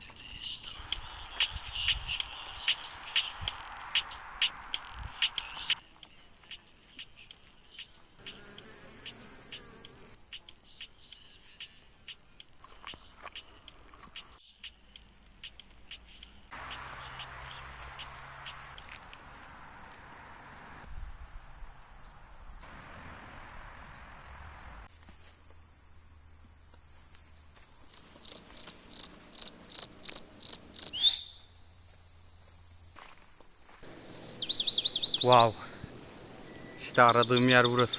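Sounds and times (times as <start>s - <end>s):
insects droning chorus: 0.0s - 37.9s
sharp insect chirps: 0.2s - 37.9s.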